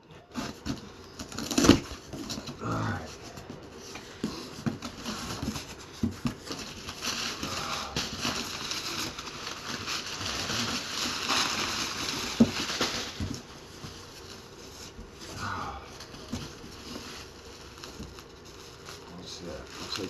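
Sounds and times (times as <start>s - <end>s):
packaging rustling and crinkling: 0.3s - 20.0s.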